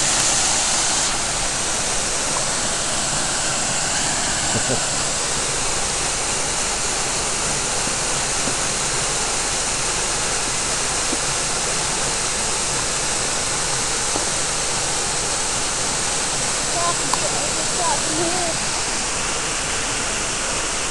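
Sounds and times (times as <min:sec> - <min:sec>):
small waterfall pouring: 0:00.0 - 0:20.9.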